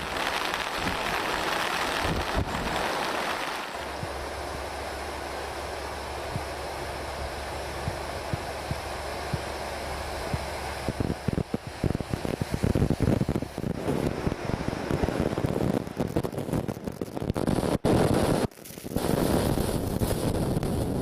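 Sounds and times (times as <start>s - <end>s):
wind buffeting microphone: 0.0s - 5.2s, 7.7s - 21.0s
steady rushing noise: 0.0s - 21.0s.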